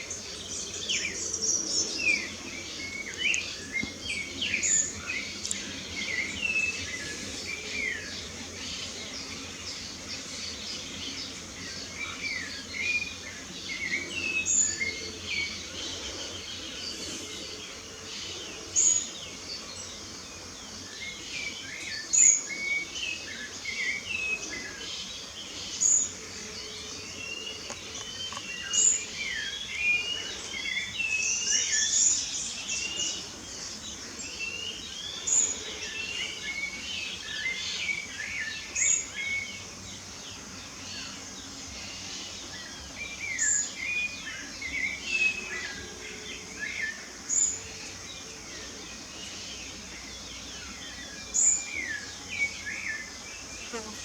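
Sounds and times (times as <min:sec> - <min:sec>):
birds singing and chirping: 0:00.0 - 0:54.0
faint insects: 0:00.0 - 0:54.0.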